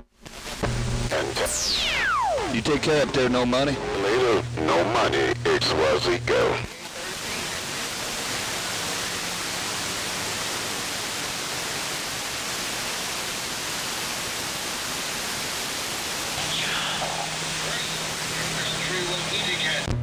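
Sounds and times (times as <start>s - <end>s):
radio static hiss: 0.0s - 20.0s
low hum: 0.6s - 20.0s.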